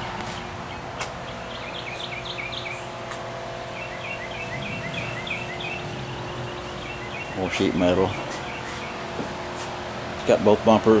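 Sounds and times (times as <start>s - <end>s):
small bird chirping: 0.3s - 9.2s.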